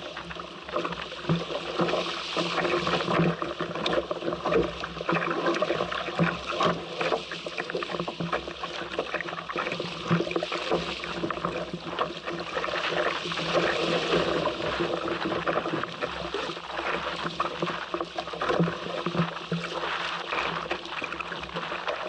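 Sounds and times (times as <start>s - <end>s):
water splashing against hull: 0.0s - 22.0s.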